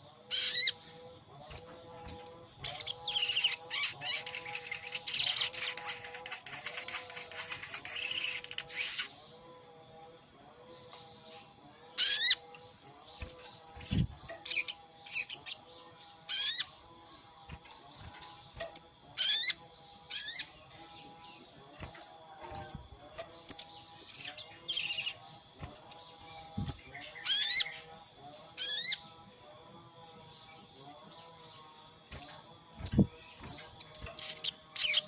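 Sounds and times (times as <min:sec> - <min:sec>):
steady thin high whine: 0:00.0 - 0:35.0.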